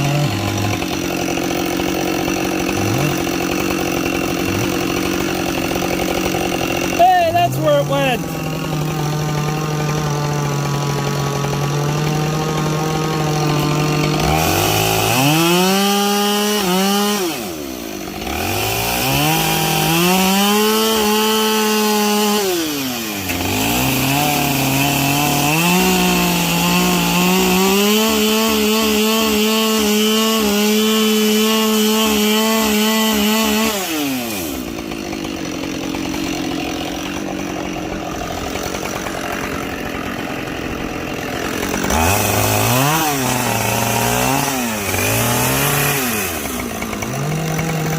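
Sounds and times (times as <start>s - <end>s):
chainsaw revving and cutting logs: 0.0s - 47.9s.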